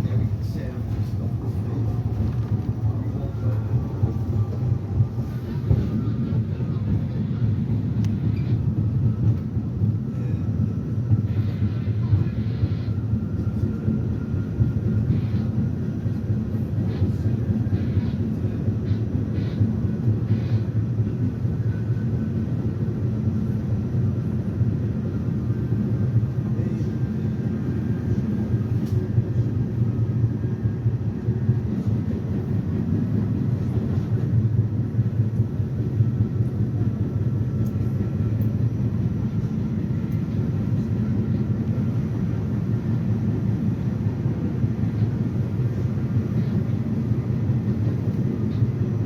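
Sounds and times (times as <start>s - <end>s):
subway train wheels rumbling: 0.0s - 49.0s.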